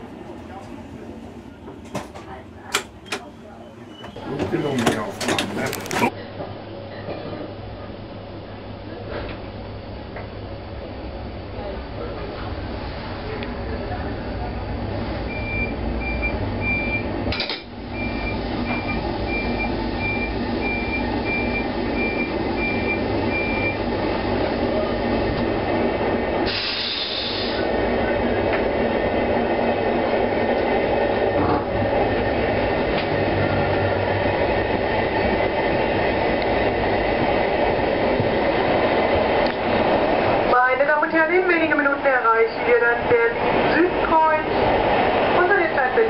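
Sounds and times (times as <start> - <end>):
train wheels rumbling on rails: 0.0 - 7.6, 8.5 - 46.0.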